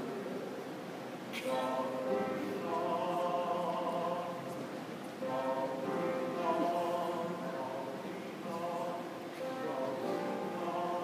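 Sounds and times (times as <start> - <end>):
choir singing held chords: 1.4 - 11.0.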